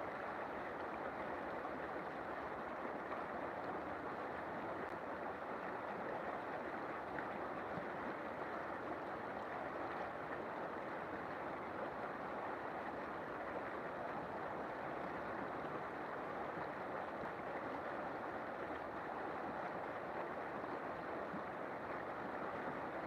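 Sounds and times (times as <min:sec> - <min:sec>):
river flowing over stones: 0:00.0 - 0:23.0.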